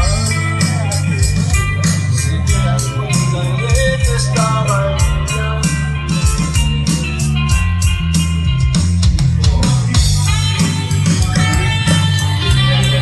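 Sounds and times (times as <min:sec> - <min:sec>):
drum kit beat: 0:00.0 - 0:13.0
electric bass: 0:00.0 - 0:13.0
electric guitar: 0:00.0 - 0:13.0.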